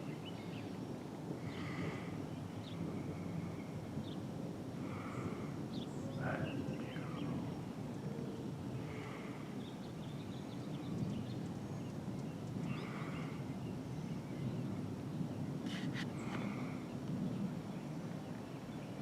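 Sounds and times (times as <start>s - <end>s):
birds chirping: 0.0s - 19.0s
low background noise: 0.0s - 19.0s.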